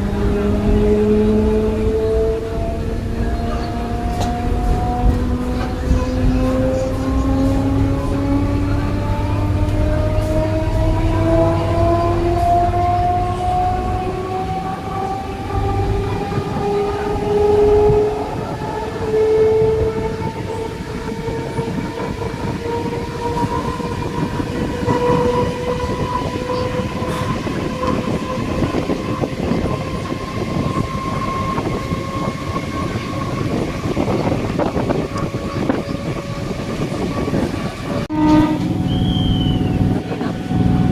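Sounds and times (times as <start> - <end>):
train traction motor whine: 0.0 - 40.9
wheels rattling on rails: 0.0 - 40.9.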